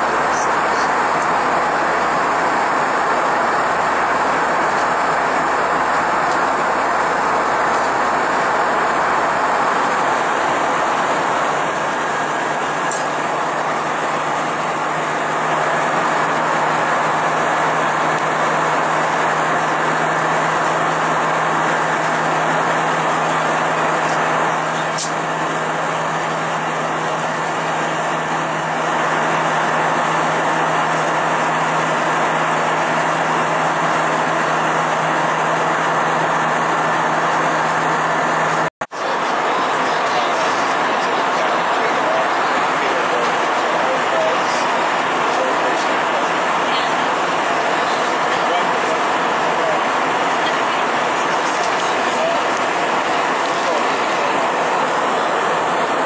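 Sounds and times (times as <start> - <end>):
rush of air in aircraft cabin: 0.0 - 56.0
steady low hum: 0.0 - 56.0.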